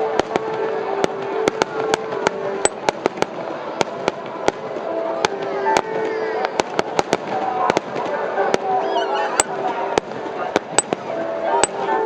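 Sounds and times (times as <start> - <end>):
fireworks popping: 0.1 - 8.7, 9.4 - 11.8.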